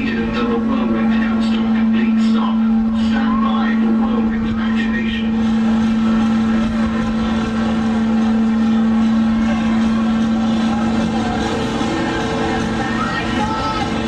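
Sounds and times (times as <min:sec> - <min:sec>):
ride machinery humming: 0:00.0 - 0:14.0.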